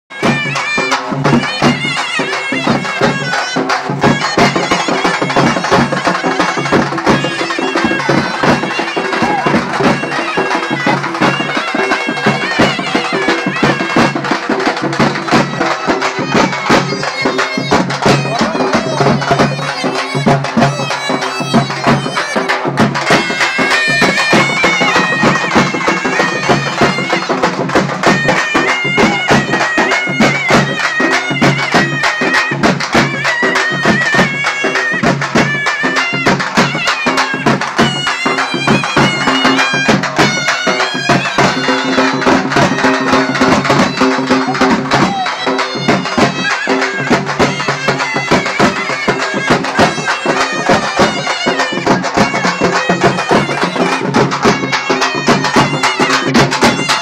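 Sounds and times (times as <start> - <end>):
rapid drumbeats: 0.1 - 57.0
reedy pipe melody: 0.1 - 57.0.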